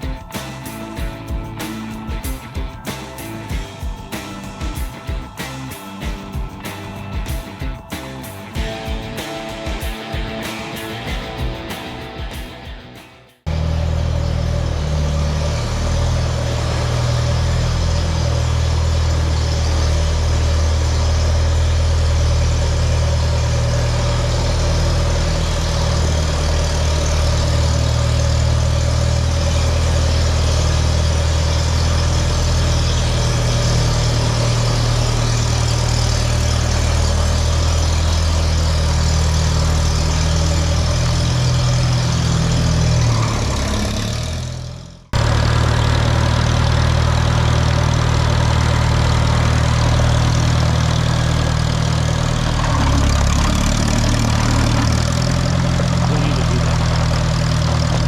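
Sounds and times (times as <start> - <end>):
grader engine idling: 0.0 - 58.0.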